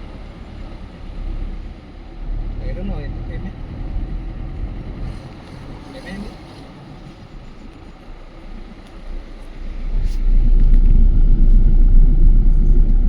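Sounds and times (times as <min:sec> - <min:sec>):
vehicle rumbling on road: 0:00.0 - 0:13.0.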